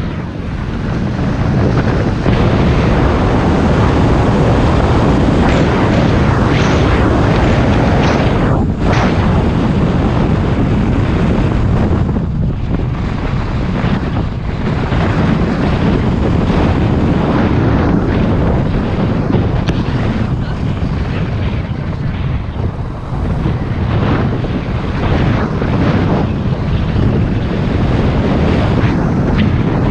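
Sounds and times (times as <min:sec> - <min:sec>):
car driving rumble: 0:00.0 - 0:29.9
wind buffeting microphone: 0:00.0 - 0:29.9.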